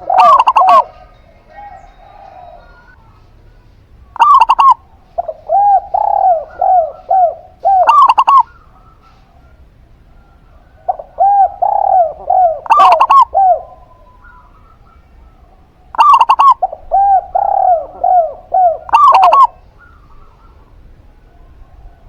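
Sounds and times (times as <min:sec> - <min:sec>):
sharp dove calls: 0:00.0 - 0:22.0
soft rounded dove coos: 0:00.0 - 0:22.0.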